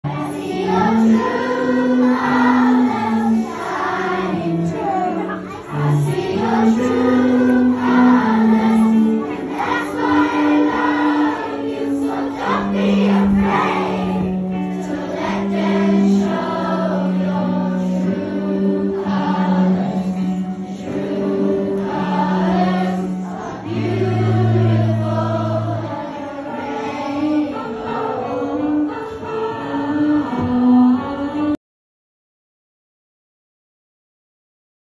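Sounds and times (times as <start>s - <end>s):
children's choir singing: 0.1s - 31.6s.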